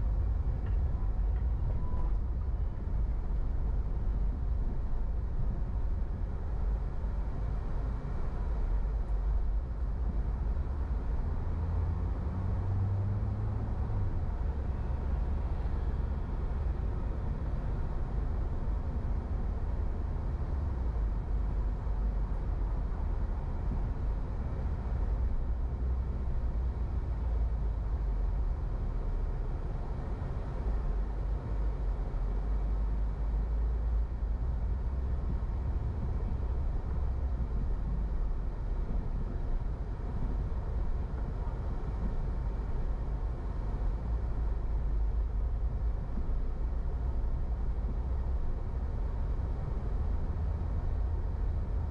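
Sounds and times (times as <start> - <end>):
car driving in traffic: 0.0 - 51.9.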